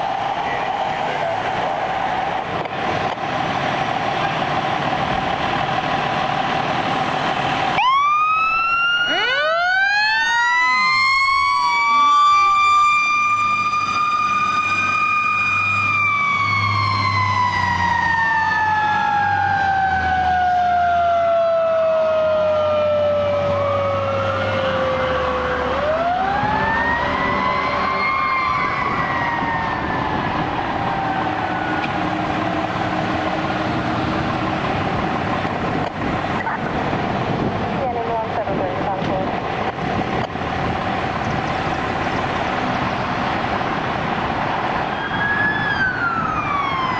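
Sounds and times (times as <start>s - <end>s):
fire station siren wailing: 0.0s - 46.9s.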